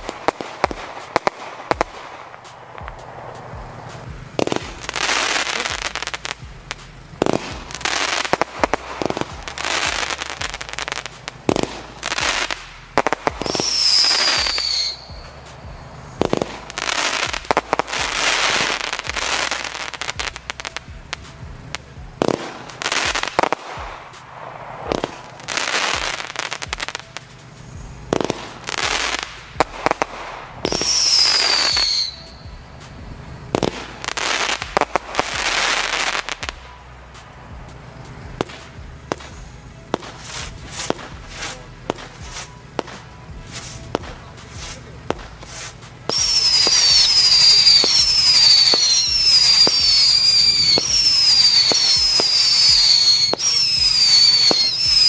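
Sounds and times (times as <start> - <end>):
falling firework whistle: 0.0 - 21.4, 22.2 - 55.0
firework bangs: 0.0 - 55.0
firework crackling: 0.0 - 55.0.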